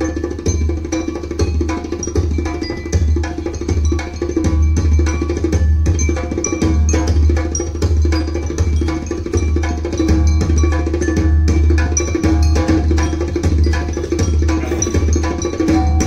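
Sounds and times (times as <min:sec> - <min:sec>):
fast even percussion: 0:00.0 - 0:16.0.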